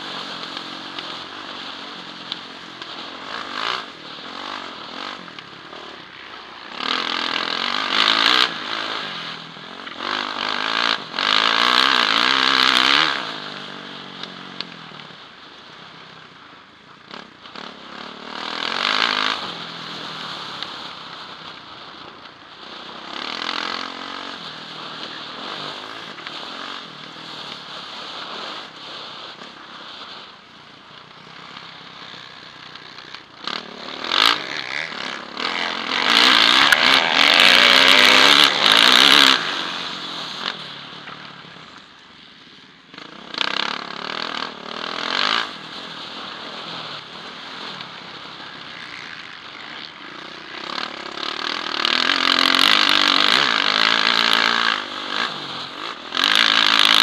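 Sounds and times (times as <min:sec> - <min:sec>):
motocross bike engine revving: 0:00.0 - 0:14.7, 0:17.0 - 0:42.0, 0:42.8 - 0:57.0.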